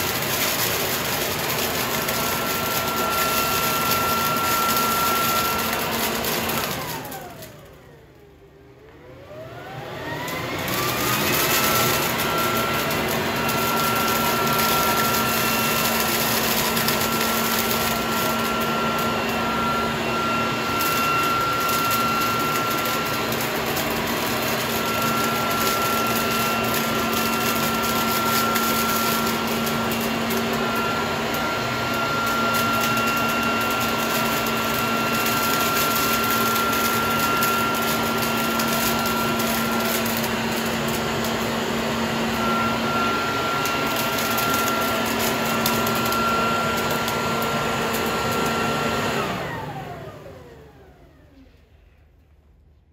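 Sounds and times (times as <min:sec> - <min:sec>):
vacuum cleaner running: 0:00.0 - 0:51.8.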